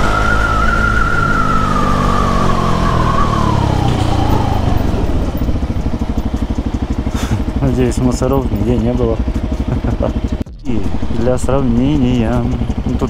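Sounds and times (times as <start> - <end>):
motorcycle engine: 0.0 - 13.0.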